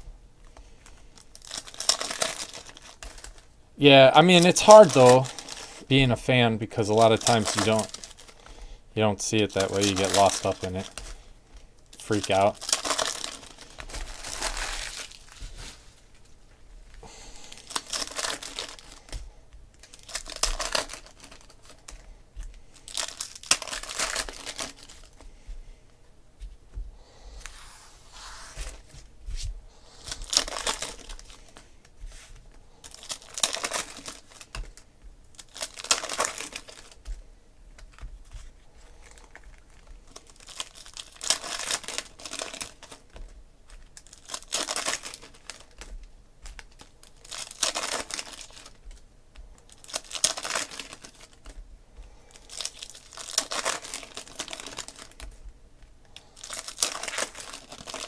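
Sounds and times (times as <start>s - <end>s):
foil wrappers crinkling and tearing: 0.4s - 16.3s, 17.1s - 25.2s, 29.8s - 31.7s, 32.5s - 58.0s.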